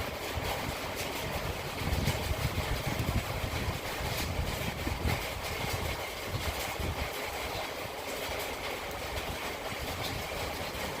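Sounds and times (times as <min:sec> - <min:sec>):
heavy rain falling: 0:00.0 - 0:11.0
wind buffeting microphone: 0:00.0 - 0:11.0.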